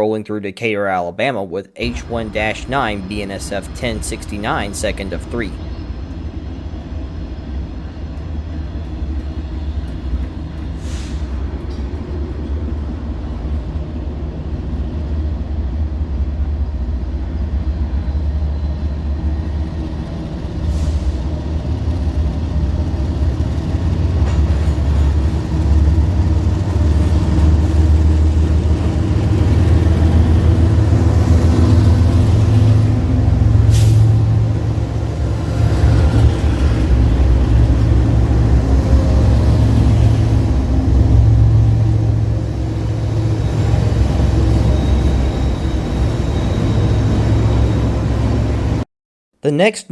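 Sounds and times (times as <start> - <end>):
diesel locomotive engines droning: 1.8 - 48.8.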